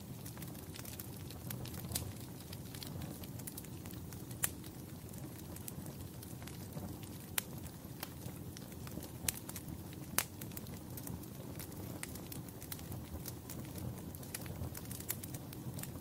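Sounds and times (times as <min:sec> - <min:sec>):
sharp pops from fire: 0:00.0 - 0:16.0
wood fire crackling: 0:00.0 - 0:16.0.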